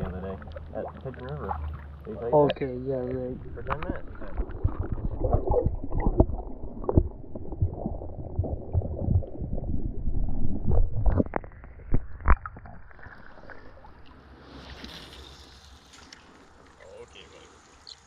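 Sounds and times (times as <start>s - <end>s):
underwater gurgling and sloshing: 0.0s - 17.7s.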